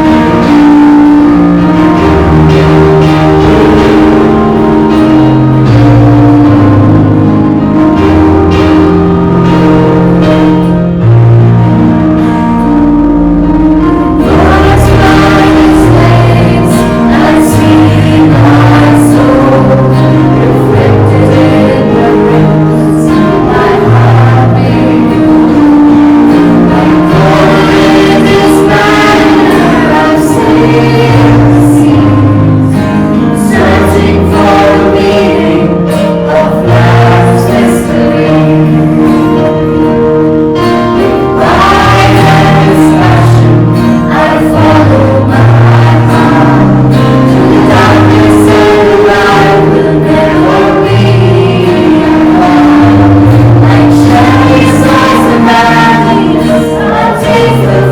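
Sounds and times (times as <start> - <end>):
choir singing: 0.0 - 57.9
slow bass line: 0.0 - 57.9.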